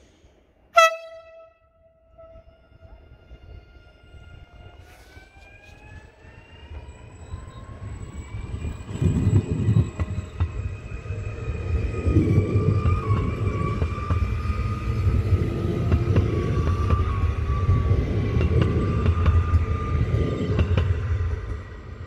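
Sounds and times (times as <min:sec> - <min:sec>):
wheels rumbling on rail: 0:00.8 - 0:22.0.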